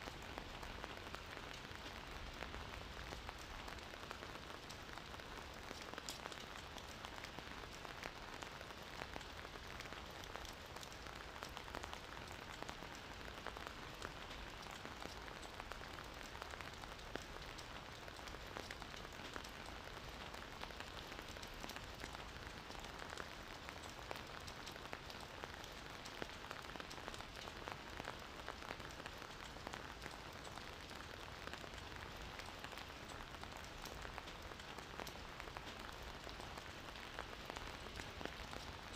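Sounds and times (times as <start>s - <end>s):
gentle rain falling: 0.0s - 38.9s
raindrop ticks: 0.0s - 38.9s.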